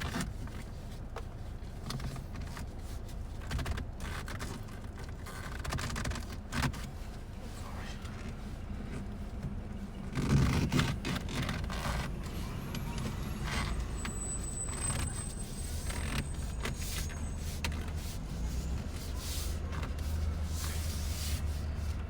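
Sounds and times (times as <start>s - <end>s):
steering wheel cover rubbing: 0.1s - 22.0s.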